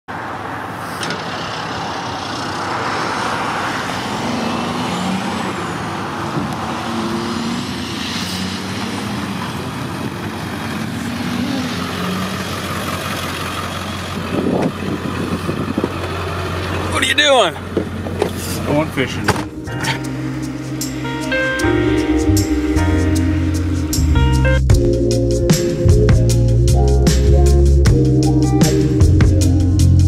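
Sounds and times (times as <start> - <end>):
road and wind noise: 0.1 - 30.0
vehicle engine hum: 0.1 - 30.0.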